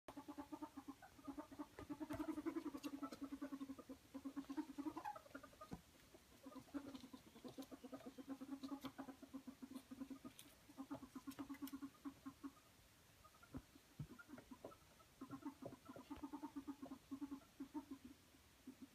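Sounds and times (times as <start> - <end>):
ferrets dooking: 0.1 - 18.9.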